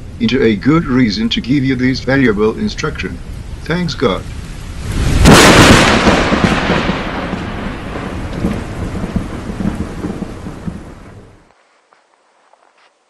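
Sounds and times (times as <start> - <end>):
thunder rumbling: 0.0 - 11.5.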